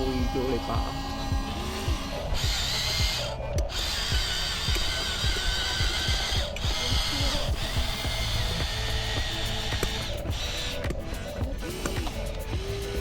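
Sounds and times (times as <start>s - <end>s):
hydraulic pump whining: 0.0s - 13.0s.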